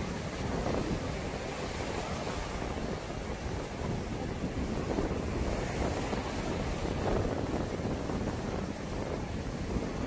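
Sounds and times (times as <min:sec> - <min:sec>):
small waves washing on sand: 0:00.0 - 0:10.0
wind buffeting microphone: 0:00.0 - 0:10.0.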